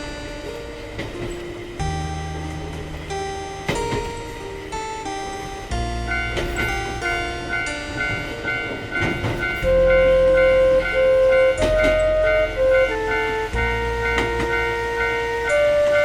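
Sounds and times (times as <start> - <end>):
background music: 0.0 - 16.0
railroad crossing bell ringing: 0.0 - 16.0
train running by: 0.0 - 16.0.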